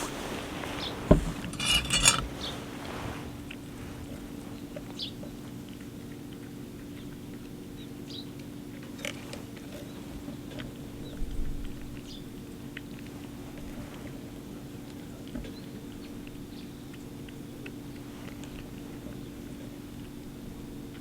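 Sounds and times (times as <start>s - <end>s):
cat chewing and licking: 2.2s - 21.0s.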